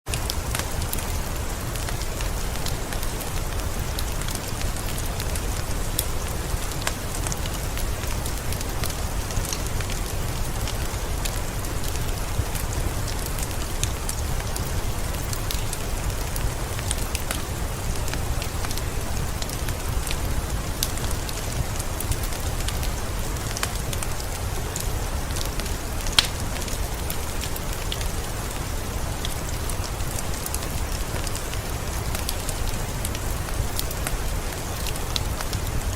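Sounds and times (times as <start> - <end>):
steady rain: 0.0 - 35.9
wood fire crackling: 0.1 - 35.9.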